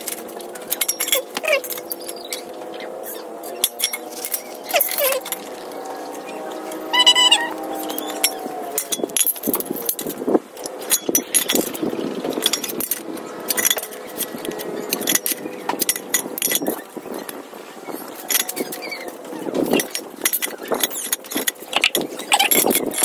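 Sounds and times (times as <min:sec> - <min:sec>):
metallic clicks and clinks: 0:00.0 - 0:17.4, 0:18.1 - 0:23.0.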